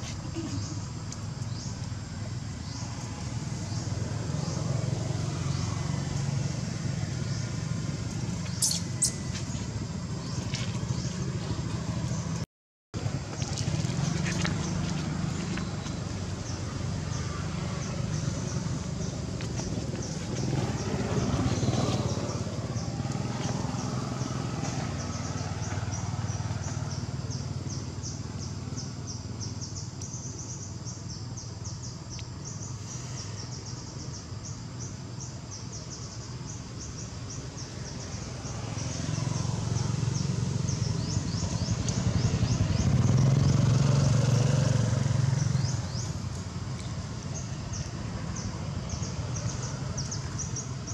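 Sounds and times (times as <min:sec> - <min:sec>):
passing motor vehicle hum: 0:00.0 - 0:12.4, 0:13.0 - 0:50.9.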